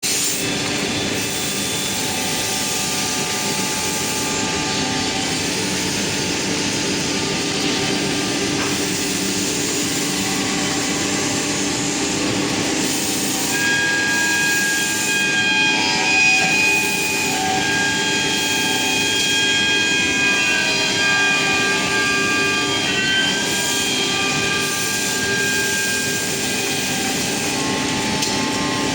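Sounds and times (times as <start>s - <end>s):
machinery hiss and hum: 0.0s - 28.9s.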